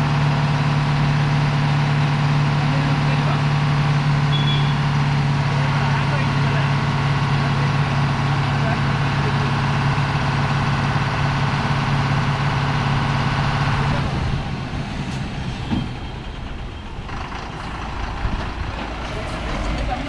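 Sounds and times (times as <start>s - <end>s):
lorry diesel engine straining: 0.0s - 20.0s.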